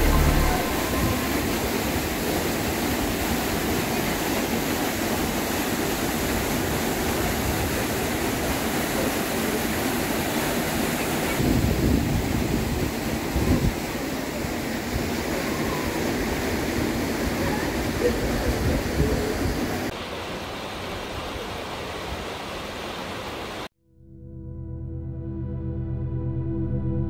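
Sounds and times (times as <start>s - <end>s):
waterfall rushing into pool: 0.0s - 23.7s.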